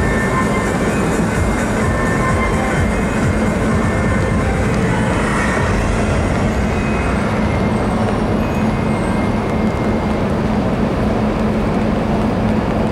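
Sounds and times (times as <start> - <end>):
ship engines droning: 0.0 - 12.9.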